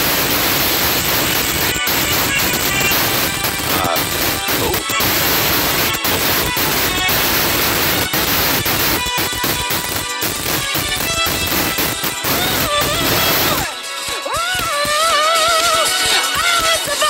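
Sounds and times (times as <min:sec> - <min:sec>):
static-like hiss: 0:00.0 - 0:17.0.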